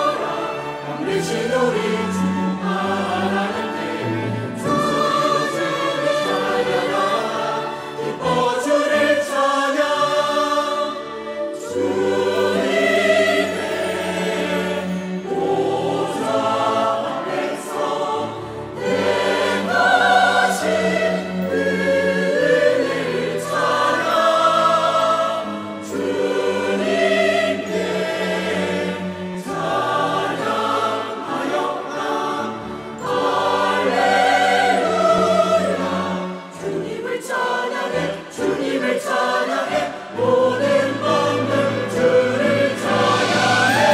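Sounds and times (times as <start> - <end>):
choir singing in harmony: 0.0 - 43.9.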